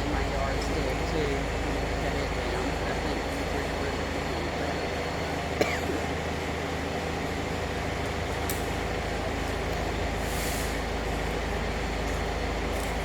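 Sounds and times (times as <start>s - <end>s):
heavy engine humming: 0.0s - 13.0s.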